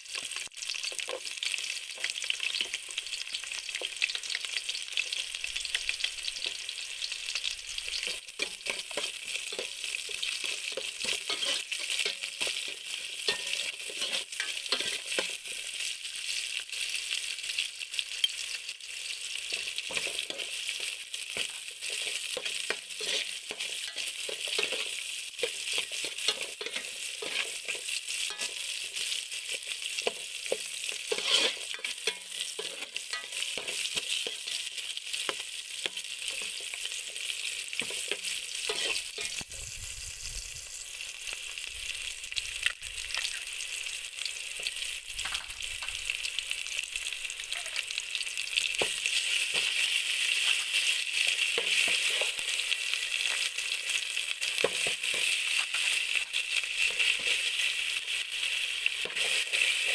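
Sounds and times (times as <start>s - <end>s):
vegetables sizzling in a pot: 0.0s - 59.9s.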